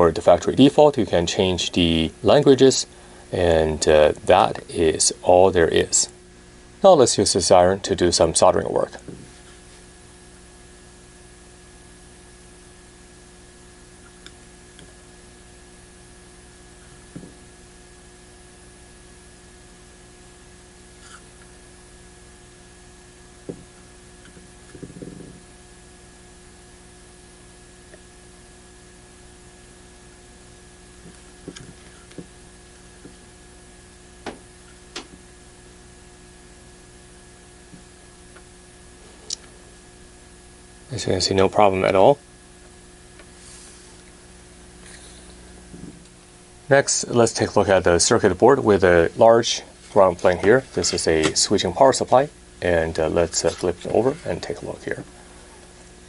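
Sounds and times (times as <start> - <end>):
electrical mains hum with hiss: 0.0 - 56.0.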